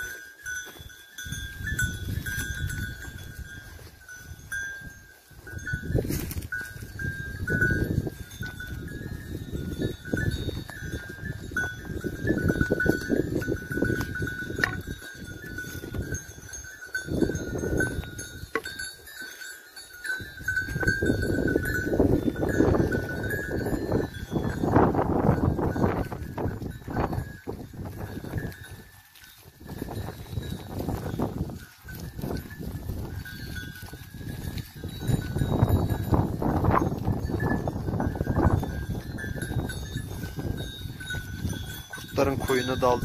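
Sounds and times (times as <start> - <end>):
rustling through dry scrub: 0.0 - 43.0
sheep bells clinking: 0.0 - 43.0.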